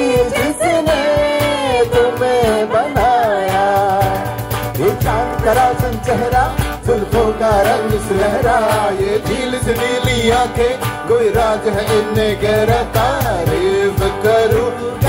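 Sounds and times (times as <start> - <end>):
musical accompaniment: 0.0 - 15.0
person singing film song: 0.0 - 15.0.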